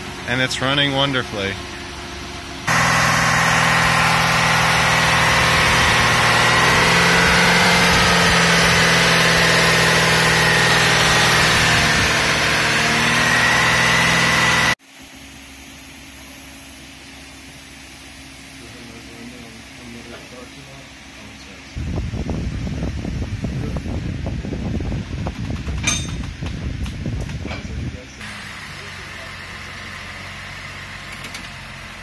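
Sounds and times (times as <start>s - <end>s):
car engine idling with whine: 0.0s - 32.0s.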